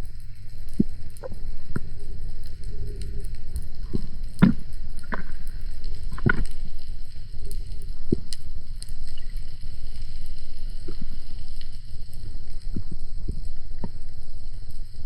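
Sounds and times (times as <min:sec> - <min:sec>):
faint clicks: 0:00.0 - 0:15.0
underwater rumble: 0:00.0 - 0:15.0.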